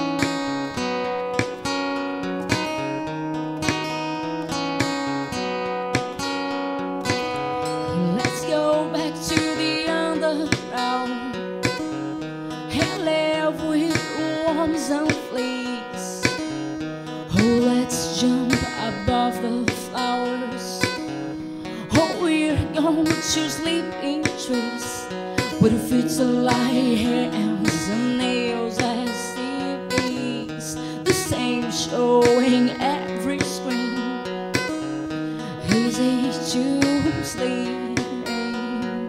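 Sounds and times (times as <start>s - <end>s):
strummed acoustic guitar: 0.0s - 39.0s
woman singing: 7.0s - 39.0s.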